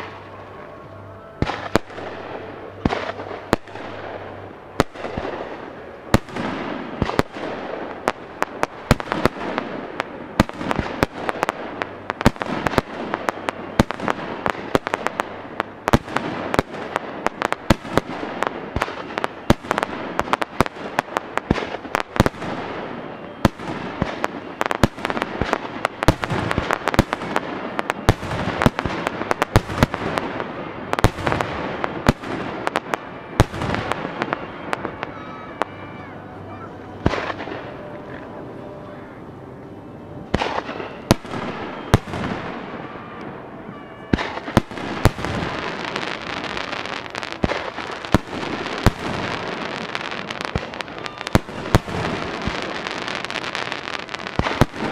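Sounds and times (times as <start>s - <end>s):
steady din of noise: 0.0s - 54.9s.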